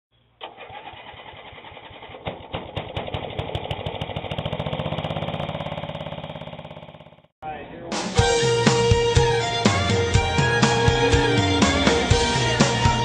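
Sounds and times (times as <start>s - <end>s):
engine starting and running: 0.4s - 7.3s, 9.3s - 13.0s.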